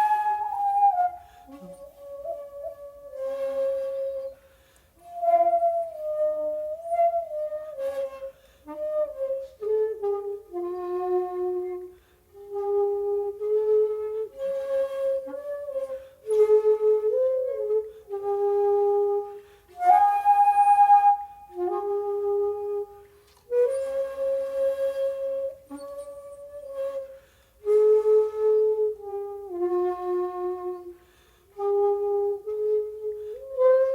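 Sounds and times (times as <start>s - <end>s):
bamboo flute playing held notes: 0.0s - 33.9s.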